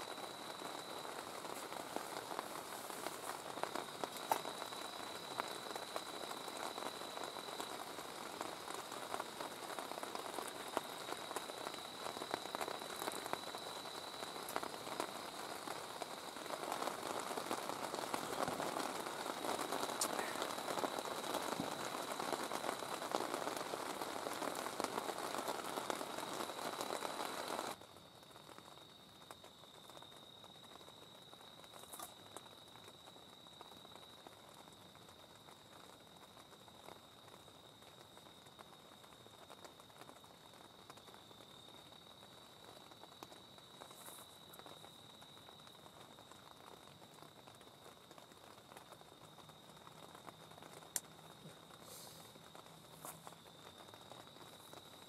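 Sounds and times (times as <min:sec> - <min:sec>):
rain pattering on a tent: 0:00.0 - 0:55.0.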